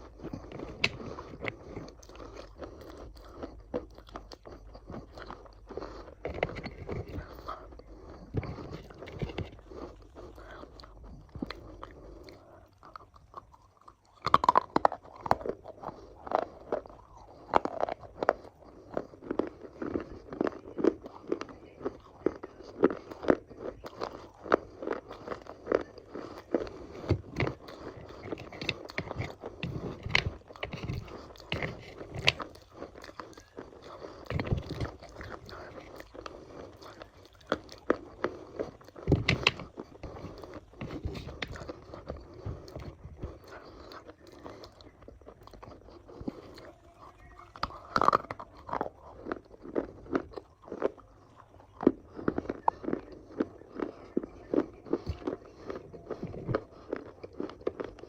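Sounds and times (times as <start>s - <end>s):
crunchy food chewing: 0.0s - 58.0s.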